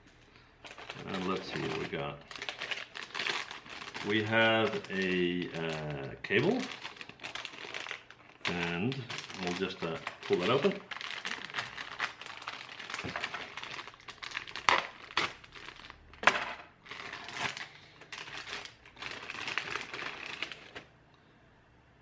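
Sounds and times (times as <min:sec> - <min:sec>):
plastic bag crinkling: 0:00.6 - 0:20.9.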